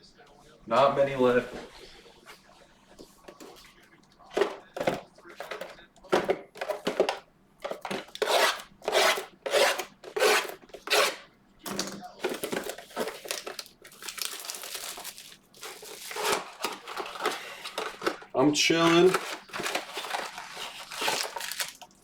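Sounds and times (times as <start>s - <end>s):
packaging rubbing and scraping: 3.2s - 22.0s
packaging rustling: 3.2s - 22.0s.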